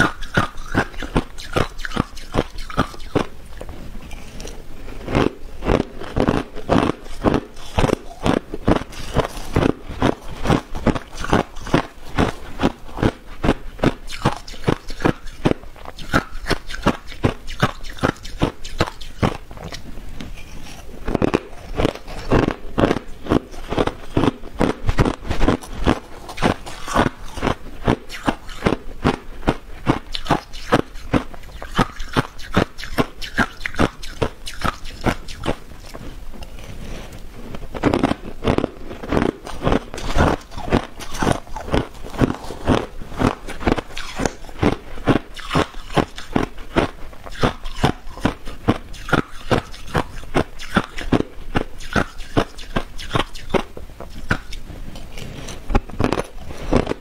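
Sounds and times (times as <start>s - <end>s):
crushed ice being chewed: 0.0s - 57.0s.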